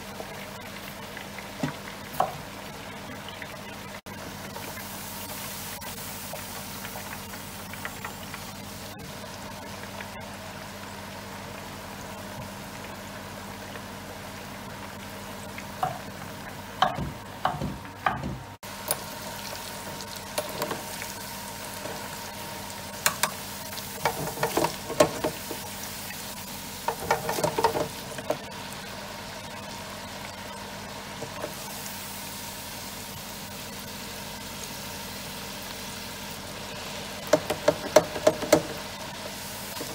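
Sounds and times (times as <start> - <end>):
chips sizzling in hot oil: 4.0 - 16.7, 18.6 - 39.9.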